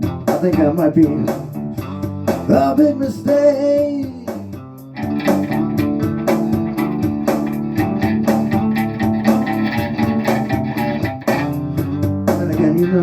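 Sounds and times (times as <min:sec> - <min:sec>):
guitars and bass playing: 0:00.0 - 0:13.0.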